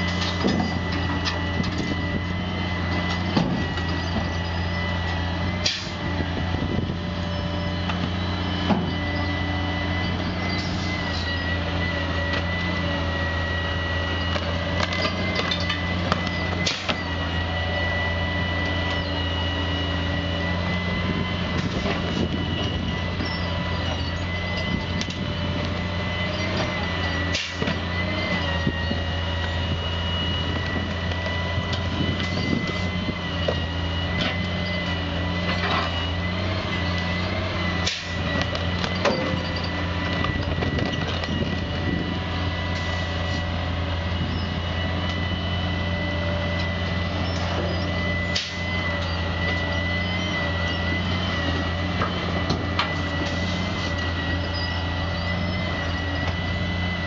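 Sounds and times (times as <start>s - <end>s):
high steady whine: 0.0s - 57.0s
truck engine and hydraulic crane: 0.0s - 57.0s.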